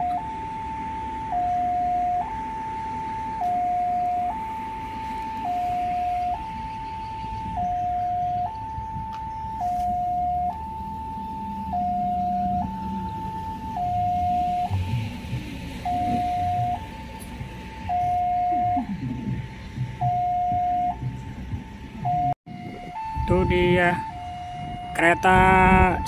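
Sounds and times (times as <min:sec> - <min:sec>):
level-crossing two-tone alarm: 0:00.0 - 0:26.0.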